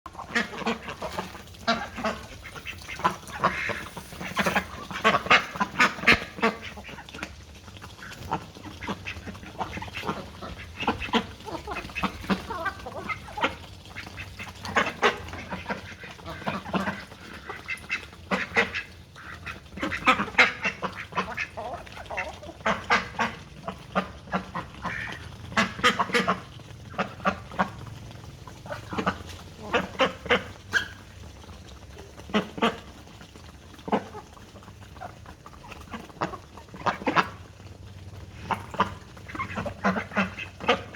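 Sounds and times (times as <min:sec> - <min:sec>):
ducks quacking: 0:00.1 - 0:40.9.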